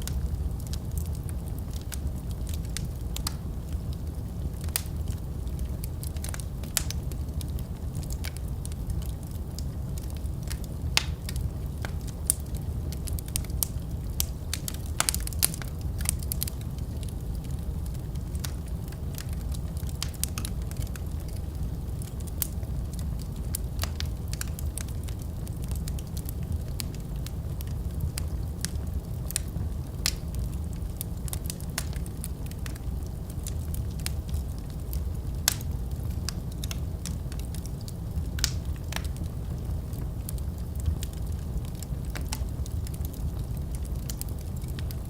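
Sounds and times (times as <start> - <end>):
fire crackling and popping: 0.0 - 45.0
low rumble of flames: 0.0 - 45.0.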